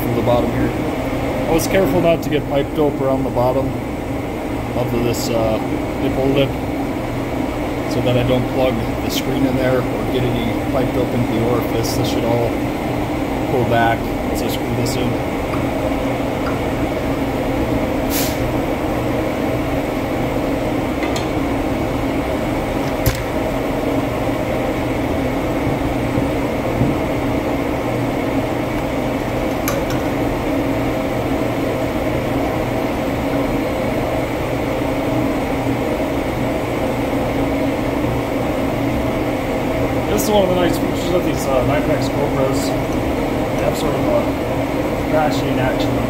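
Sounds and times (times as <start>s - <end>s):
machinery drone: 0.0s - 46.0s.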